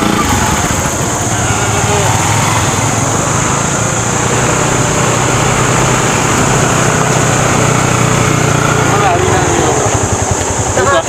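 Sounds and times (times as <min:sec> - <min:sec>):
motorcycle engine hum: 0:00.0 - 0:11.0
road noise rushing: 0:00.0 - 0:11.0.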